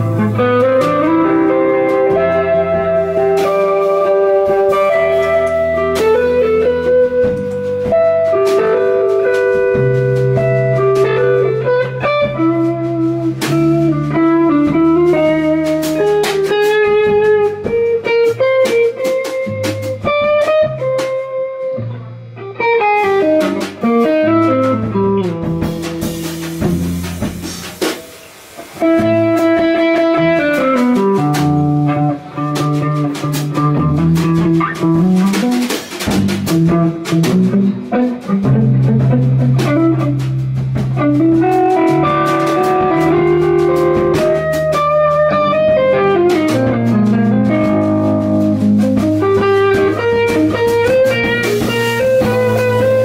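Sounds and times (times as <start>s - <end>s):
drum kit with cymbals: 0.0s - 53.0s
electric guitars playing melodies: 0.0s - 53.0s.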